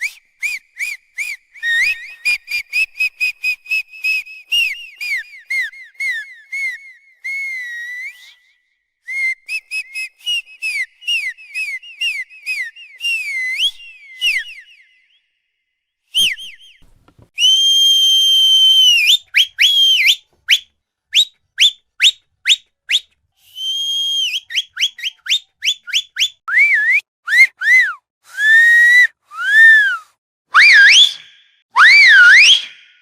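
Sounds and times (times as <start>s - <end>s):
whistles and chirps: 0.0s - 16.8s, 17.4s - 33.0s.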